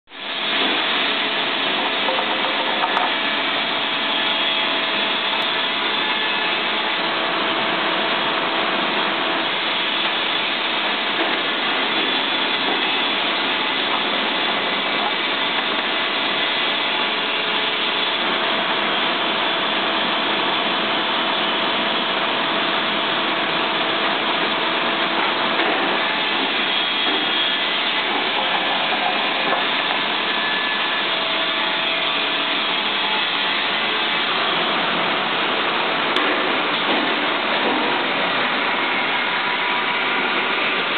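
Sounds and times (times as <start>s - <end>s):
band saw cutting wood: 0.3s - 40.9s.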